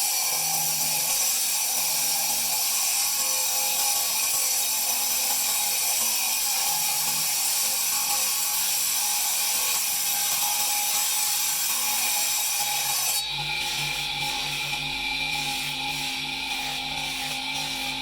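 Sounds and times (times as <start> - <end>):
power tool grinding marble: 0.0 - 18.0.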